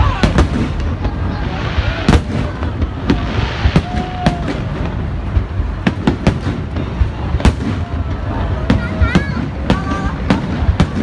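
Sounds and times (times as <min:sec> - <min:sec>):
fireworks bursting in sharp bangs: 0:00.0 - 0:11.0
steady low rumble: 0:00.0 - 0:11.0.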